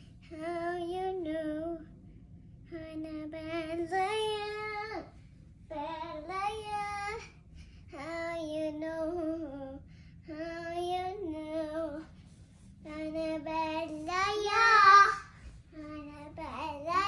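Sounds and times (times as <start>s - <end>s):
girl singing unaccompanied: 0.0s - 2.0s, 2.6s - 12.2s, 12.8s - 17.0s.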